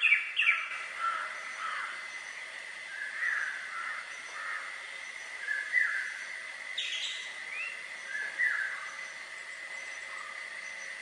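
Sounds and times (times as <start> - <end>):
bird chirping: 0.0 - 11.0
high-pitched whine: 0.0 - 11.0.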